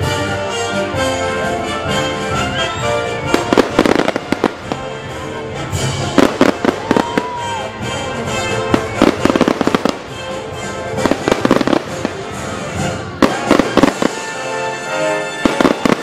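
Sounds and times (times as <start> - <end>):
music playing: 0.0 - 16.0
fireworks bangs and crackles: 1.4 - 16.0.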